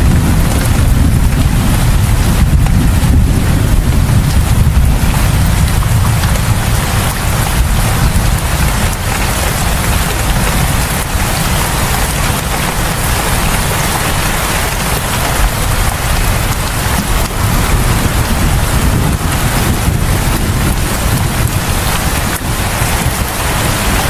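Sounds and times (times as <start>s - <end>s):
deep low rumble: 0.0s - 24.0s
heavy rain falling: 0.0s - 24.0s.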